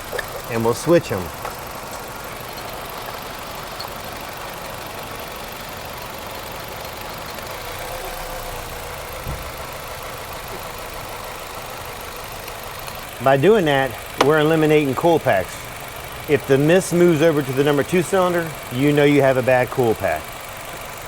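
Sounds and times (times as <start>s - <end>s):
car engine idling with misfire: 0.0s - 21.0s.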